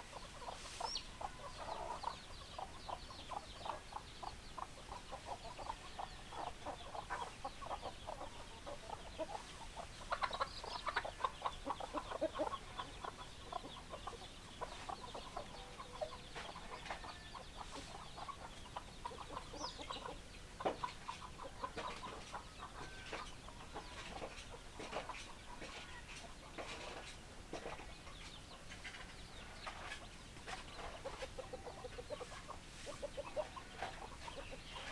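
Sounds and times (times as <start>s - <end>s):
hens clucking: 0.0s - 34.9s.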